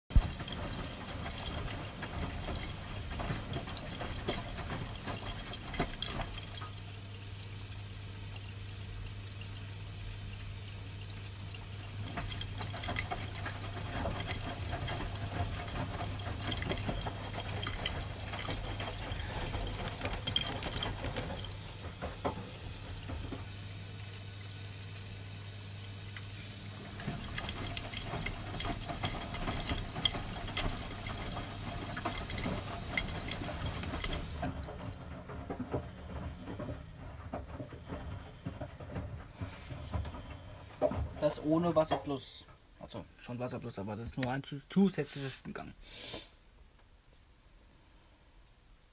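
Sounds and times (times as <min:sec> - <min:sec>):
water sloshing in washing drum: 0:00.1 - 0:42.2
washing machine low hum: 0:00.1 - 0:45.1.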